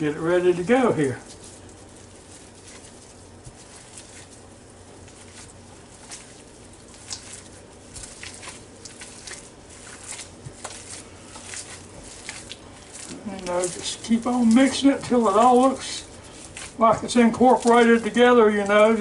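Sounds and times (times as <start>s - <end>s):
hands kneading meat mixture: 0.0s - 19.0s.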